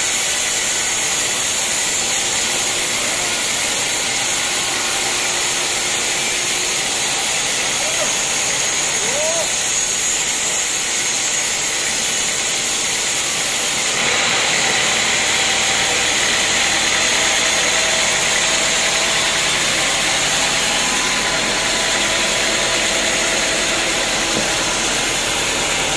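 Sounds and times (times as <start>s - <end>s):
band saw cutting wood: 0.0s - 25.9s.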